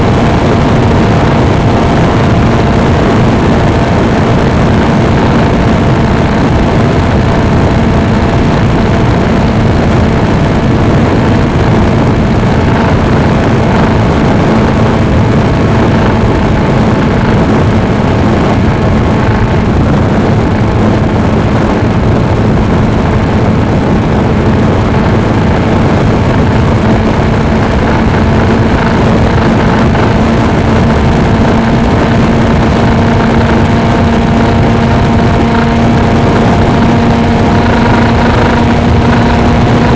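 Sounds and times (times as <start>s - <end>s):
motorcycle engine humming: 0.0s - 39.9s
wind and road noise: 0.0s - 39.9s.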